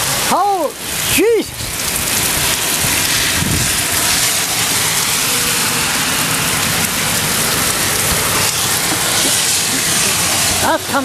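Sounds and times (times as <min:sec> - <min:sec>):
heavy rain on hard surfaces: 0:00.0 - 0:11.0
wind: 0:00.0 - 0:11.0.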